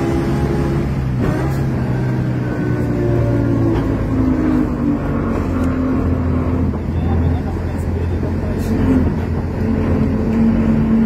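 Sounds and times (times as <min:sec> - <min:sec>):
tram motors and wheels rumbling: 0:00.0 - 0:11.0.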